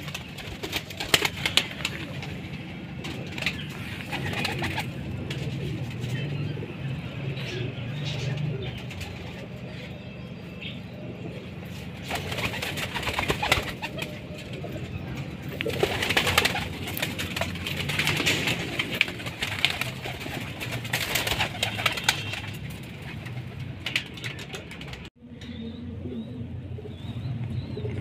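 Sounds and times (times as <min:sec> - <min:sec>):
birds clicking and rustling: 0:00.0 - 0:09.8, 0:11.6 - 0:25.6
pigeons cooing: 0:00.0 - 0:28.0.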